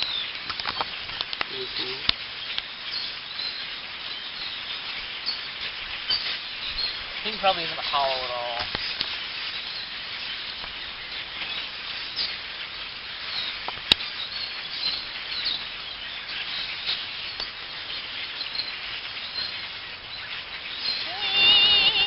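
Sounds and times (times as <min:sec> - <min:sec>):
many birds chirping: 0:00.0 - 0:22.0.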